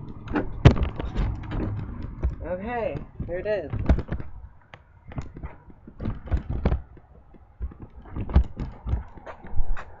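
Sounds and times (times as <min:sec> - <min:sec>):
dull low thumps: 0:00.0 - 0:10.0
handling clicks and knocks: 0:00.0 - 0:10.0.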